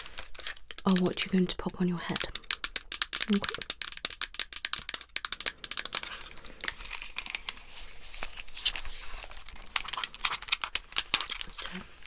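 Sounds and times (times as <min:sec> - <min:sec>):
crinkling and rustling: 0:00.0 - 0:12.0.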